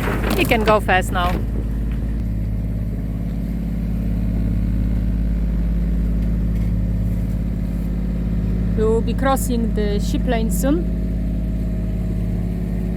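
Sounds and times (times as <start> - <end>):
diesel engine droning: 0.0 - 12.9.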